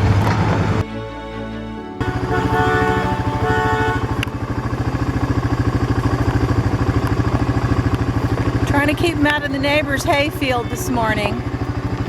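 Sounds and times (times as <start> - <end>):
small vehicle engine running: 0.0 - 1.4, 2.0 - 12.0
short steady tones: 2.0 - 12.0.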